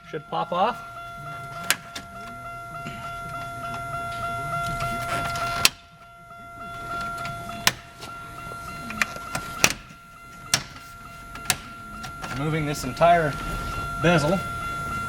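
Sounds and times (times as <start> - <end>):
electronic warning tone: 0.0 - 15.0.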